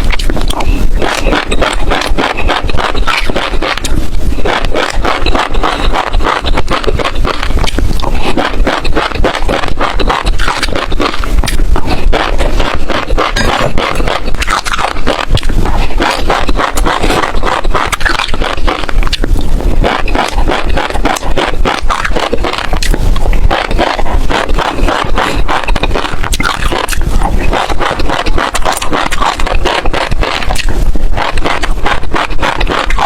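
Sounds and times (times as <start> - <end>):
chewing crunchy seeds: 0.0 - 33.0.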